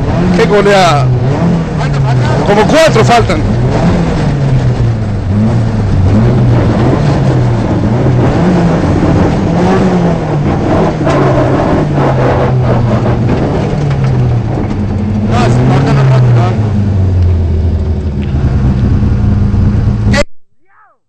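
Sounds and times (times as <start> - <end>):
rally car engine revving: 0.0 - 20.2.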